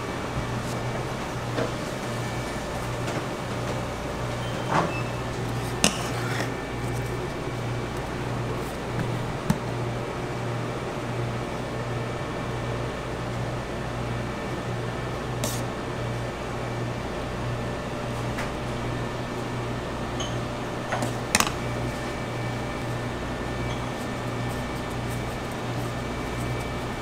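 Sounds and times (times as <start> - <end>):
kitchen machinery humming: 0.0 - 27.0.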